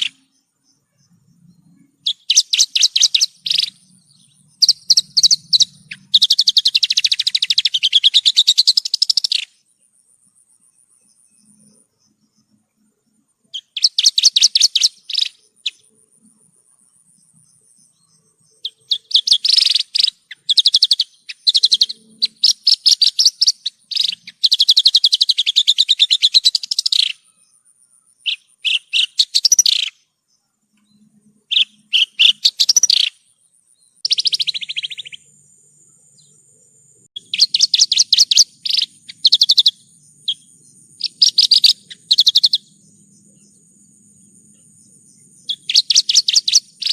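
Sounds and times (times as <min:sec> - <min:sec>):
lark singing trilled notes: 0:00.0 - 0:09.7, 0:11.0 - 0:16.0, 0:17.2 - 0:30.1, 0:30.8 - 0:46.9.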